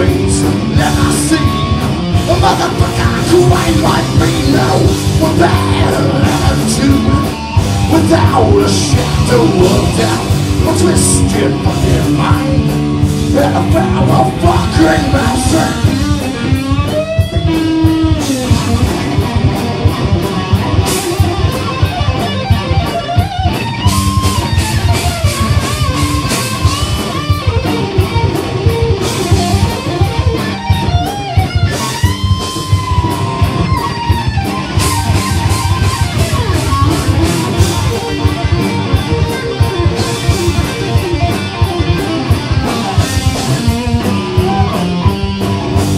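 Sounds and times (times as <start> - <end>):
live heavy rock band: 0.0 - 45.9
sliding lead guitar line: 0.0 - 45.9.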